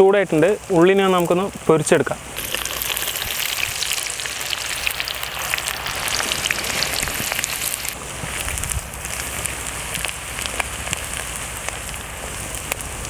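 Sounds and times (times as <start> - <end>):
onions sizzling in hot oil: 2.4 - 13.0.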